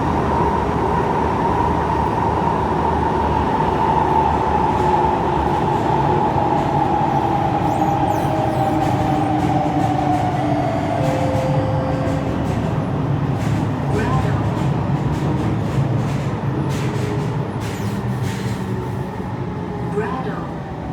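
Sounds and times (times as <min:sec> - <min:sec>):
train wheels rumbling on rail: 0:00.0 - 0:20.9.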